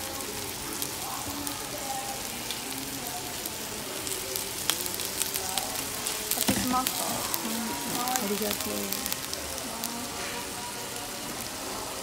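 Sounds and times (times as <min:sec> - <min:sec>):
sauce sizzling on hot plate: 0:00.0 - 0:12.0.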